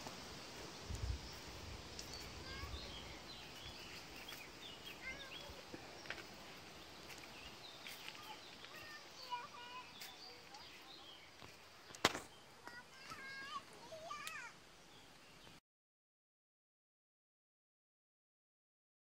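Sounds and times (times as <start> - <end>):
small birds chirping: 0.0 - 15.6.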